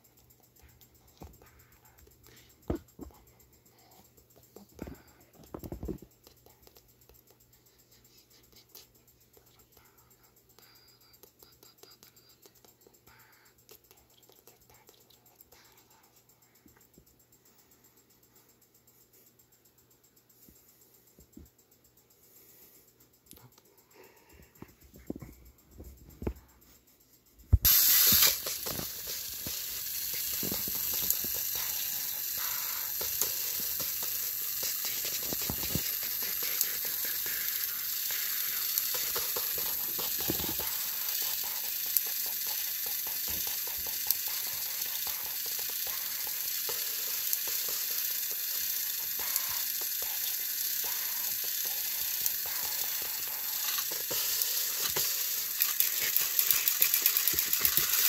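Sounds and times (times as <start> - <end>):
toy motors whirring: 0.0 - 17.9, 27.6 - 58.0
toy wheels clicking and hissing: 0.0 - 18.4, 27.5 - 58.0.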